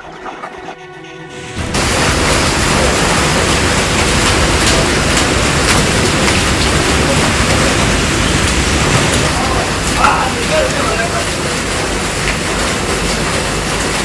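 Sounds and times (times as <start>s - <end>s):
fish and water rushing down chute: 1.3s - 14.0s.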